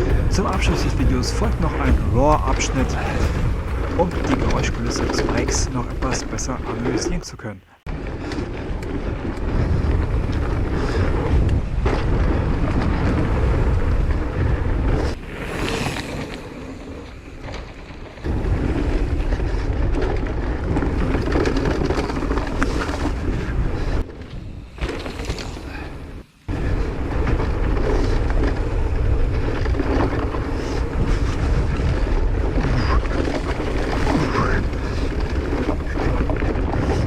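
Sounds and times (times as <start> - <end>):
wind rushing over microphone: 0.0 - 7.2, 7.8 - 37.0
mountain bike riding noise: 0.0 - 37.0.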